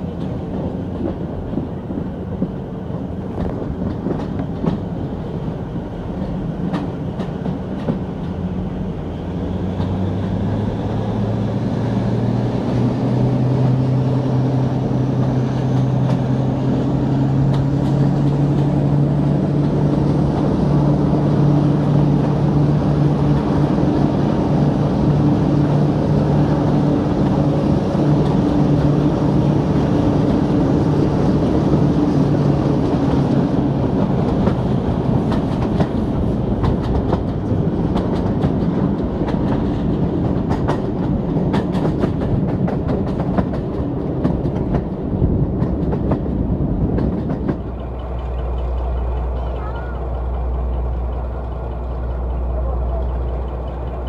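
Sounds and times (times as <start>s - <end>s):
diesel locomotive engine drone: 0.0s - 54.0s
wheels running on rail: 0.0s - 54.0s.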